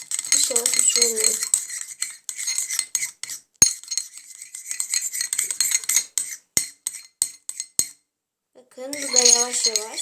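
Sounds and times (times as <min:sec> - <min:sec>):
spoon scraping and clinking bowl: 0:00.0 - 0:08.0, 0:08.9 - 0:10.0.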